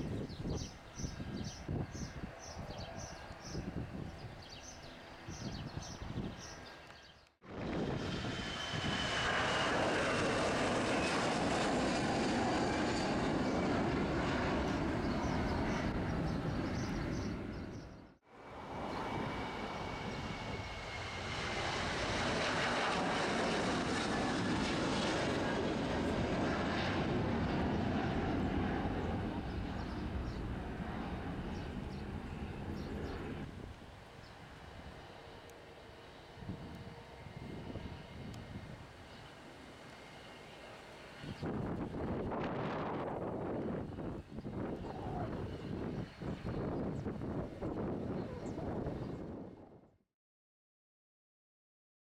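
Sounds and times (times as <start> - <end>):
jet airliner passing overhead: 0.0 - 50.0.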